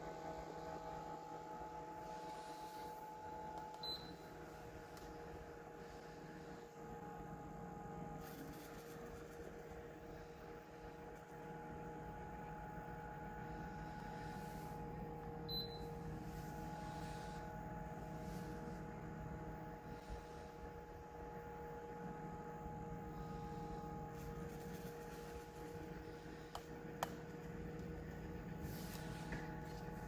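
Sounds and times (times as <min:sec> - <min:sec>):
fan humming: 0:00.0 - 0:30.0.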